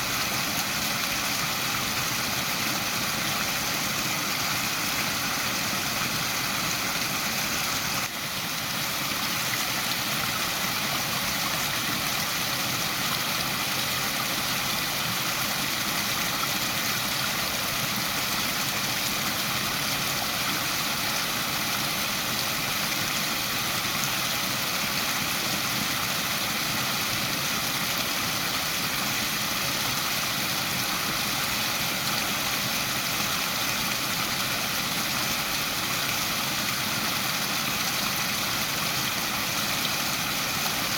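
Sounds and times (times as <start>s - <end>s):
waterfall pouring and splashing: 0.0s - 40.9s.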